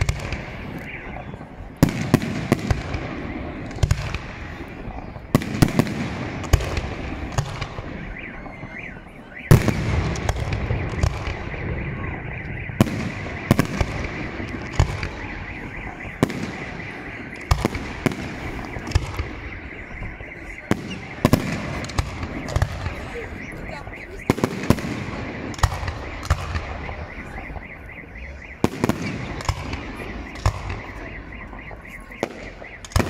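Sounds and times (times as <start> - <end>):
fireworks rumble and crackle: 0.0 - 33.0.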